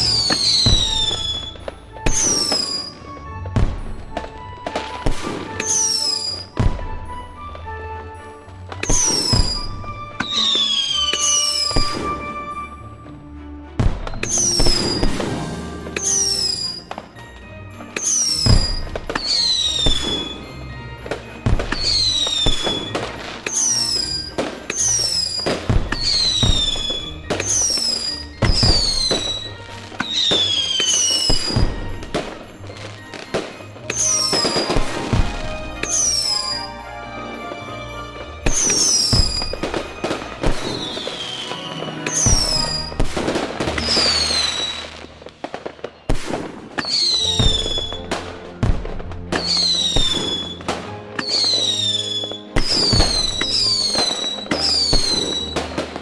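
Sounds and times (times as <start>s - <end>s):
fireworks bangs: 0.0s - 12.7s, 13.8s - 56.0s
fireworks crackle: 0.0s - 12.7s, 13.8s - 56.0s
fireworks whistling: 0.0s - 13.0s, 13.8s - 56.0s.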